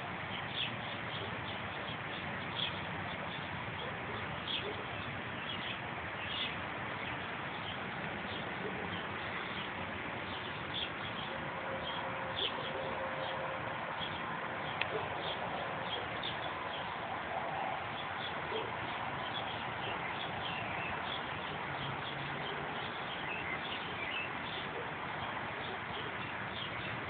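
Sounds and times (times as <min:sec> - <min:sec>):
steady background hiss: 0:00.0 - 0:27.0
small birds chirping: 0:00.3 - 0:27.0.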